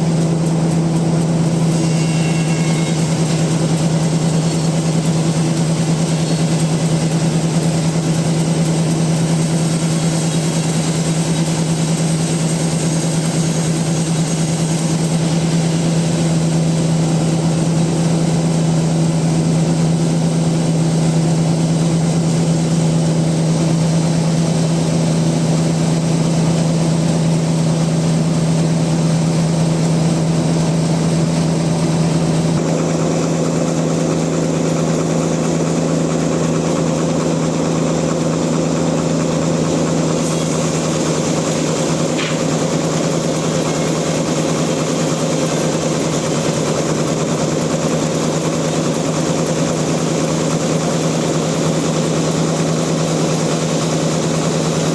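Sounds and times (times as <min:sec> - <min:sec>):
bandsaw mill running: 0:00.0 - 0:54.9.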